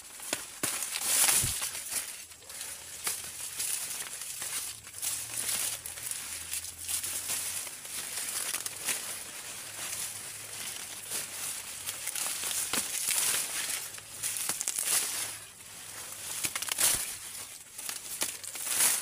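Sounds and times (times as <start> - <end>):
dry leaves and stalks rustling: 0.0 - 19.0.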